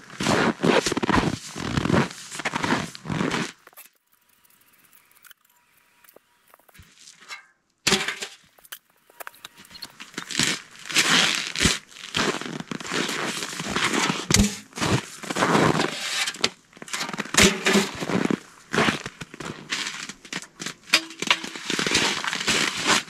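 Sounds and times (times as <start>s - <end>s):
rustling and scraping in a tent: 0.0s - 4.4s, 5.2s - 23.0s.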